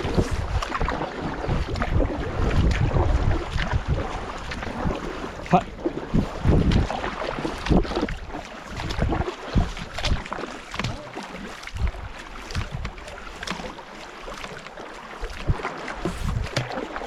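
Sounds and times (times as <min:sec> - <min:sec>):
canoe paddles splashing water: 0:00.0 - 0:17.0.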